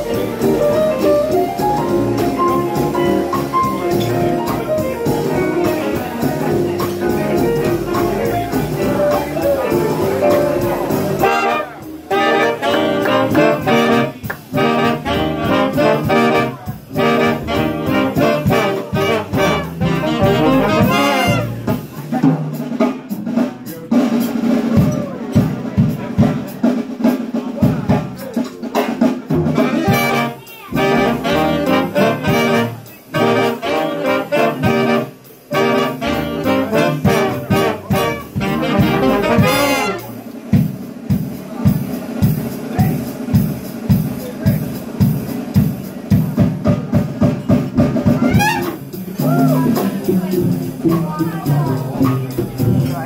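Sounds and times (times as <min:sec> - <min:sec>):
jazz big band playing: 0:00.0 - 0:53.0.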